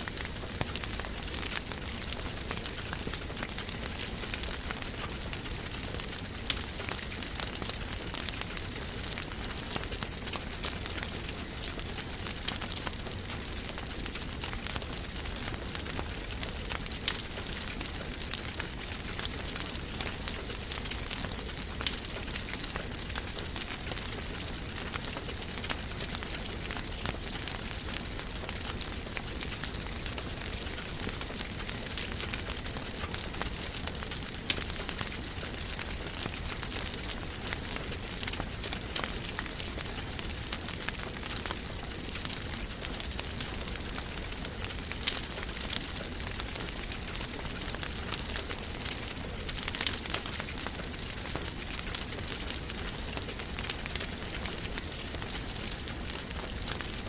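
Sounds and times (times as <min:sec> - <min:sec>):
wood fire burning: 0:00.0 - 0:57.0.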